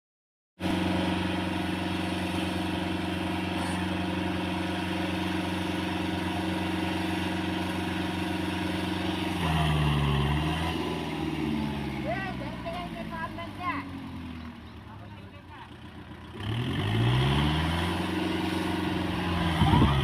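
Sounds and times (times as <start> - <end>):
tractor diesel engine pulsing: 0.6 - 20.0.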